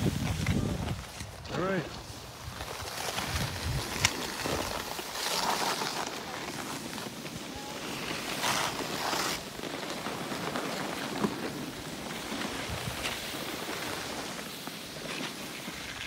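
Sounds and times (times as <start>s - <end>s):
skis scraping over snow: 0.0s - 16.0s.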